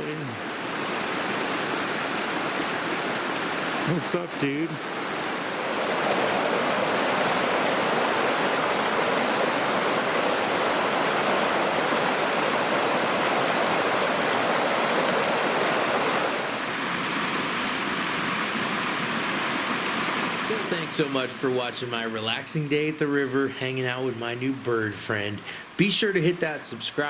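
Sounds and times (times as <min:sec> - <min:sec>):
brook water running over rocks: 0:00.0 - 0:27.0.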